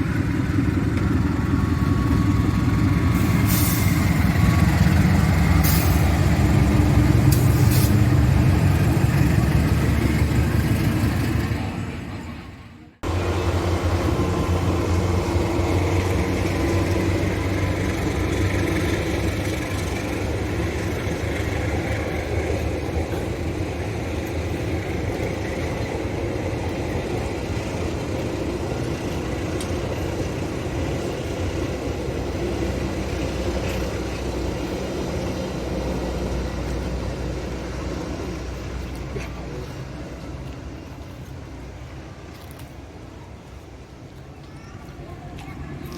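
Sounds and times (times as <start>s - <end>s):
train running by: 0.0s - 45.9s.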